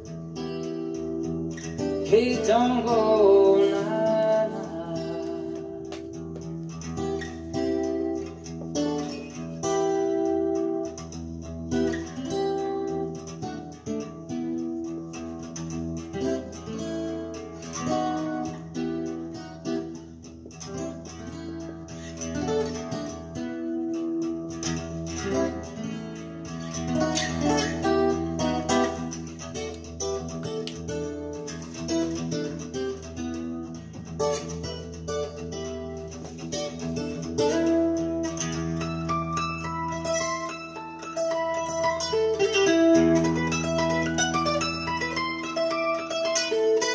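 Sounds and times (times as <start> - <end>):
guitar music through radio speakers: 0.0 - 46.9.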